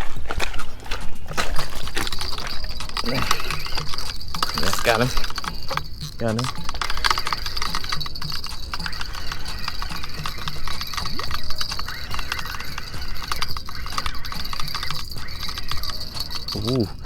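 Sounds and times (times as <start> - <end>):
fishing reel clicking: 0.0 - 17.0.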